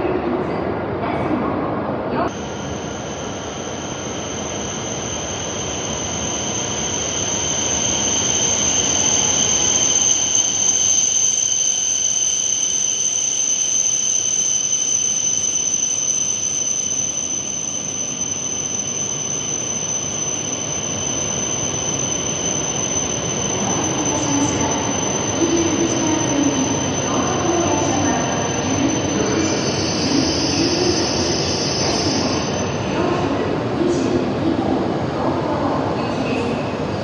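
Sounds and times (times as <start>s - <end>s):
high-pitched whine: 2.2s - 37.0s.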